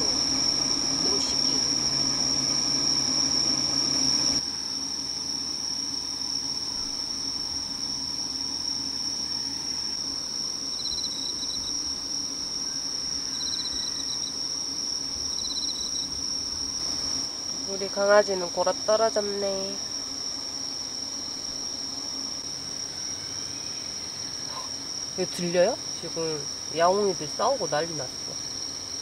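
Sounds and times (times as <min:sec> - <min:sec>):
crickets trilling: 0:00.0 - 0:29.0
insect pulsed chirp: 0:00.0 - 0:29.0.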